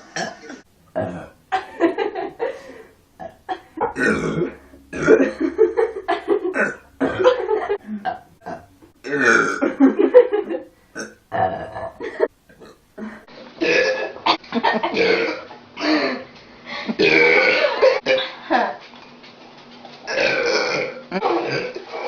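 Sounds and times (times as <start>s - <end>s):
woman burping: 0.0s - 14.2s, 14.9s - 16.3s, 17.0s - 18.7s, 20.1s - 21.8s.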